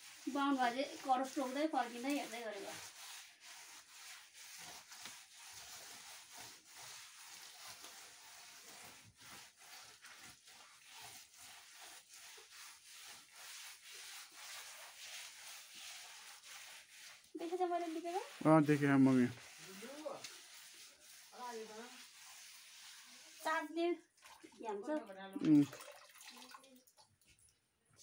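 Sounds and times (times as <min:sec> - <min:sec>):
hand rubbing wet mud plaster: 0:00.0 - 0:23.7.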